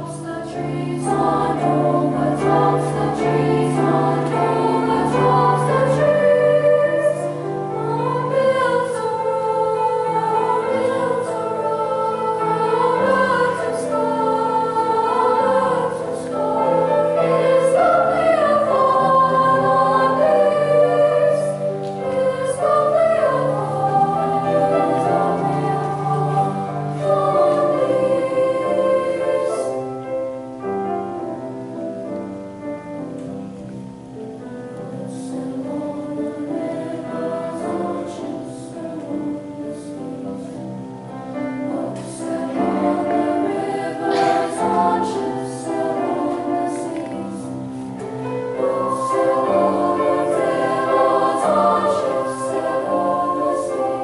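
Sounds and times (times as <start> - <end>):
choir singing in parts: 0.0 - 33.4, 34.1 - 54.0.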